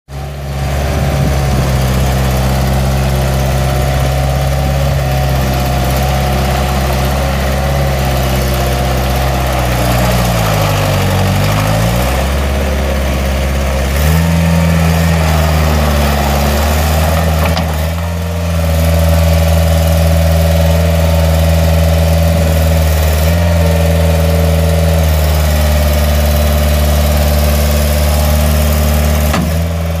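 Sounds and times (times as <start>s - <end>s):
diesel engine running: 0.1s - 30.0s.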